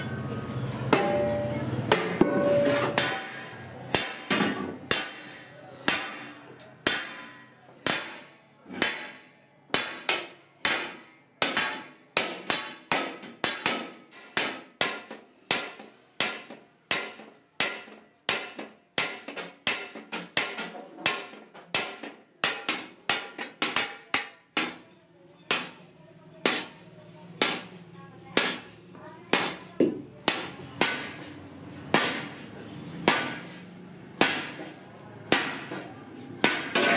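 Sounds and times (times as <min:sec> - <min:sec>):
hammer clanking on metal pot: 0:01.0 - 0:31.3, 0:34.2 - 0:36.9.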